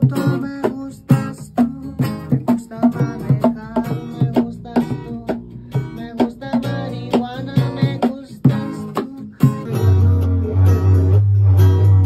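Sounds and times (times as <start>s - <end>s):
classical guitar strummed: 0.0s - 12.0s.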